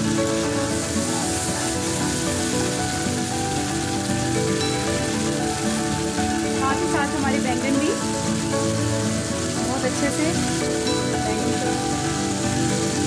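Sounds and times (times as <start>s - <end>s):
background music: 0.0s - 13.0s
oil sizzling in a pan: 0.0s - 13.0s.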